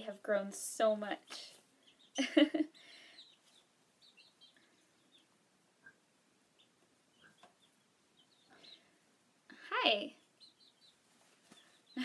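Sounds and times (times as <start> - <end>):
chick peeping: 1.3 - 12.0.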